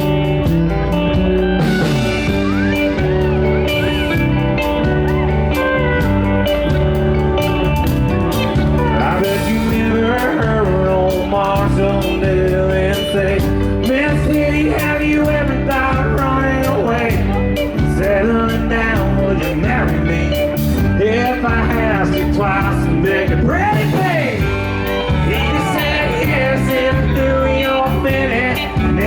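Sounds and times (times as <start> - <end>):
live country band playing: 0.0 - 29.0.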